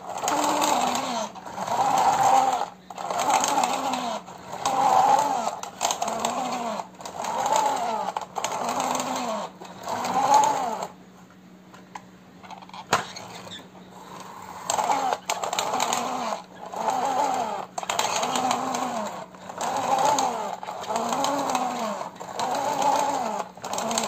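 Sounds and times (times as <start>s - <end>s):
toy truck wheels whirring: 0.0s - 11.0s, 12.5s - 24.0s.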